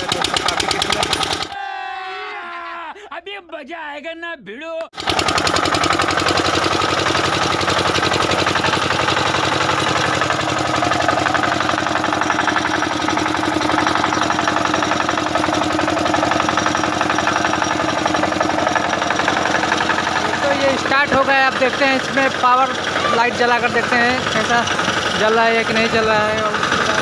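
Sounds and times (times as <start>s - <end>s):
diesel generator engine running: 0.0s - 1.6s, 5.0s - 27.0s.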